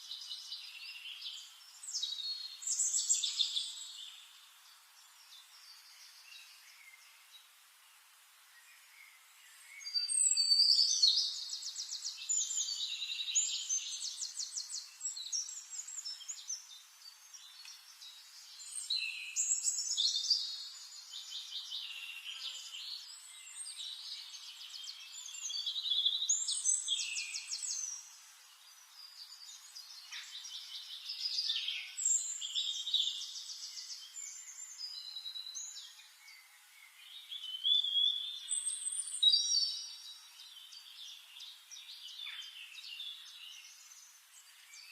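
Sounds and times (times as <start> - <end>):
songbirds singing with trills: 0.0 - 44.9.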